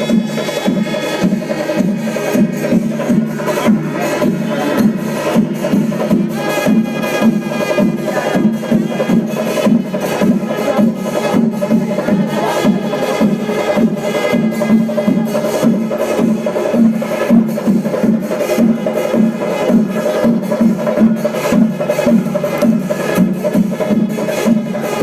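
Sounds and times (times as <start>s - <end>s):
fast percussion music: 0.0s - 25.0s.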